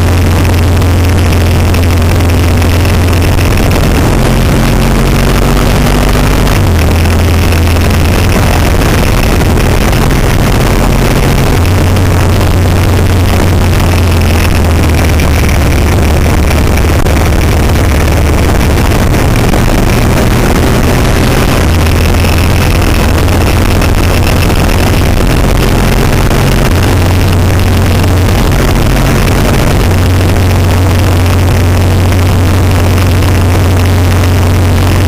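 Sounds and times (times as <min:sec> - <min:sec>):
wind rushing over microphone: 0:00.0 - 0:32.0
motorcycle engine running: 0:00.0 - 0:35.0.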